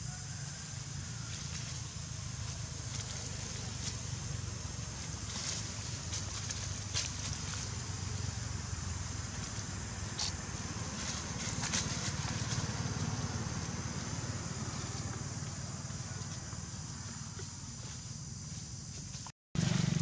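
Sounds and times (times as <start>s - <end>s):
dry leaves rustling: 0.3s - 20.0s.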